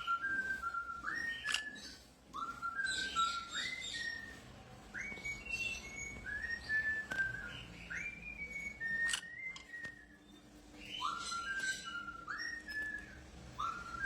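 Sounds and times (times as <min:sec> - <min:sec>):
parrot whistling a tune: 0:00.0 - 0:14.0.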